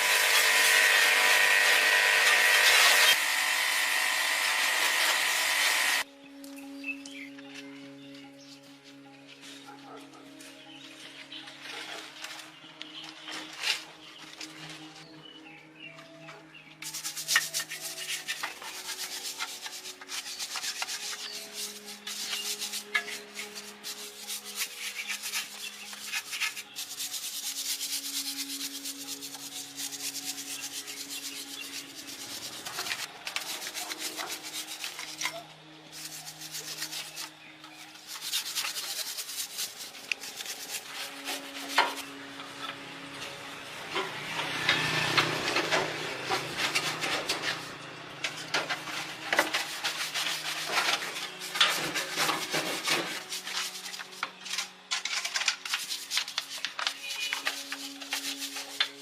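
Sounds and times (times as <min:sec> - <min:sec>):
abrasive scrubbing rust off metal: 0:00.0 - 0:06.0, 0:16.8 - 0:43.3, 0:43.9 - 0:59.0.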